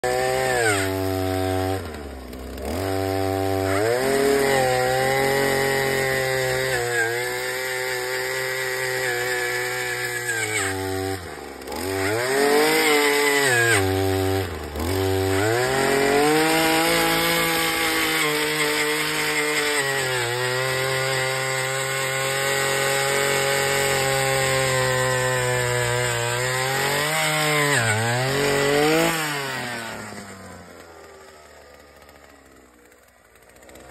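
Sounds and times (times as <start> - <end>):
earth auger engine running: 0.0 - 33.9.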